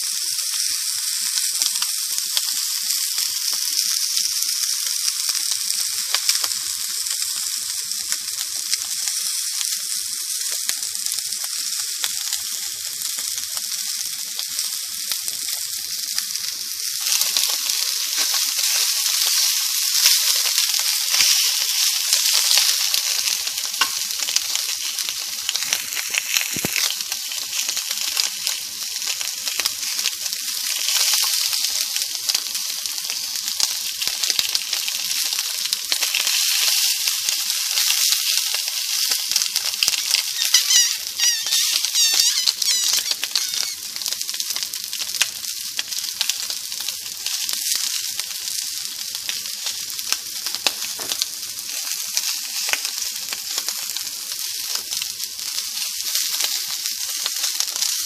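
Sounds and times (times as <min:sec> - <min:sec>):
sausages sizzling in a frying pan: 0:00.0 - 0:58.0.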